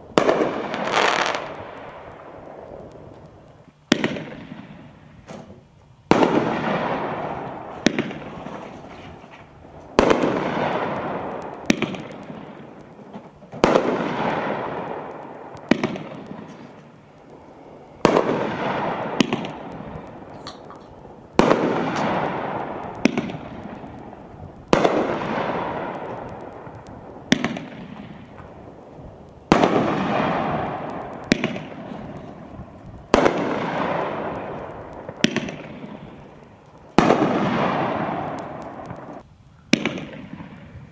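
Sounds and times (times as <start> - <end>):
firework shots with loud report: 0.0 - 40.9
hiss and crackle of stars: 0.0 - 40.9
sharp firework crack: 0.0 - 40.9.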